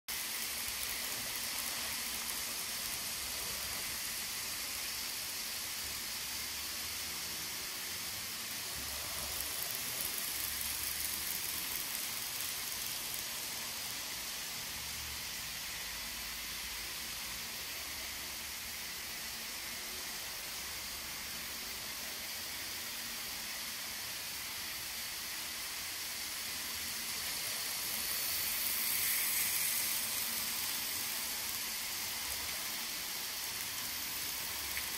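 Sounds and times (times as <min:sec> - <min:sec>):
model trains running on track: 0:00.1 - 0:34.9.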